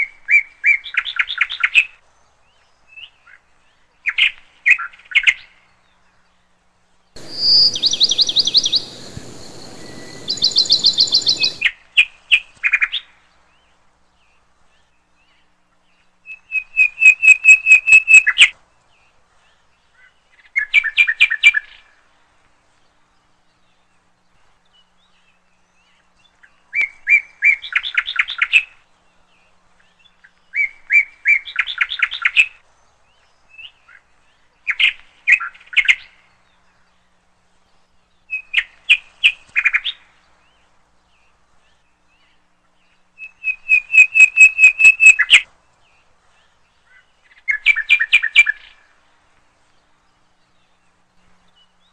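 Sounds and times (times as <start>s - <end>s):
small birds singing trilling chirps: 0.0s - 51.9s.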